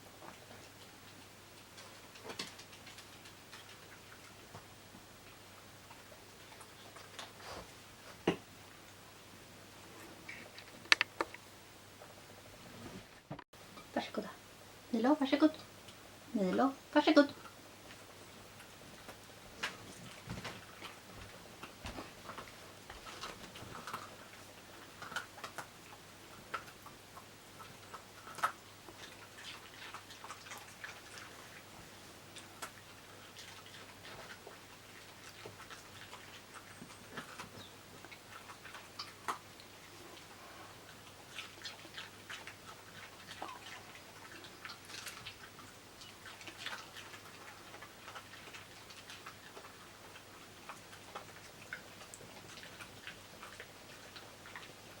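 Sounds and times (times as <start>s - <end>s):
dogs crunching vegetables: 0.0s - 11.4s, 17.3s - 55.0s.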